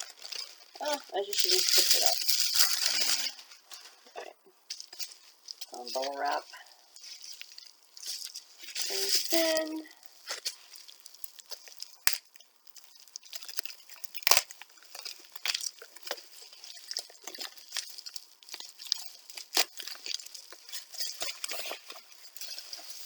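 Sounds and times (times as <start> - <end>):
bubble wrap crinkling: 0.0 - 23.0.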